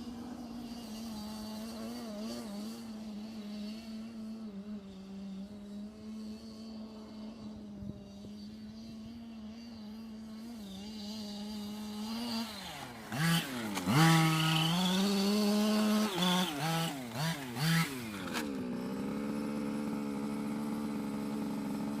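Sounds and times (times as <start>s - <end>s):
toy car motor humming: 0.0s - 22.0s.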